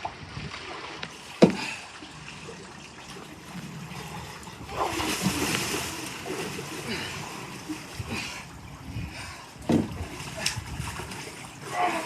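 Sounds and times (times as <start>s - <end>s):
water splashing in a pool: 0.0s - 12.0s.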